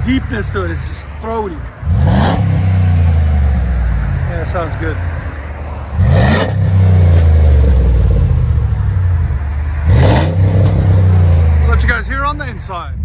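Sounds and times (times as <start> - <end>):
car engine revving: 0.3 - 12.6.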